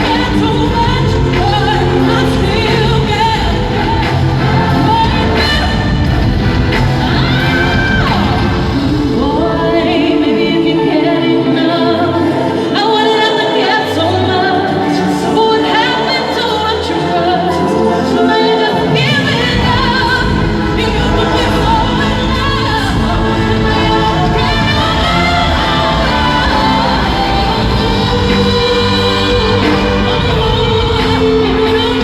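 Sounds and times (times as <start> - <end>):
live concert music with singing: 0.0 - 32.0.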